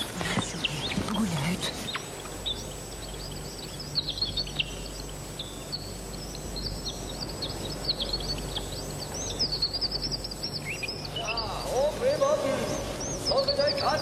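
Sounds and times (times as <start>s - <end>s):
background hiss: 0.0s - 14.0s
small birds chirping: 0.0s - 14.0s.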